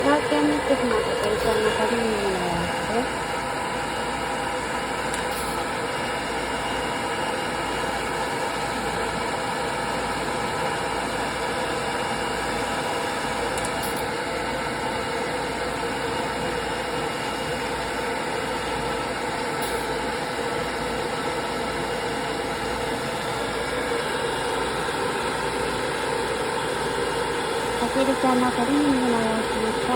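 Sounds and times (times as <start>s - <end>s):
hair dryer blowing: 0.0s - 29.9s.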